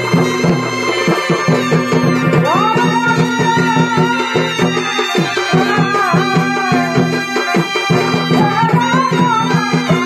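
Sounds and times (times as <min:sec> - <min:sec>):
steady drumming: 0:00.0 - 0:10.0
wavering melody line: 0:00.0 - 0:10.0.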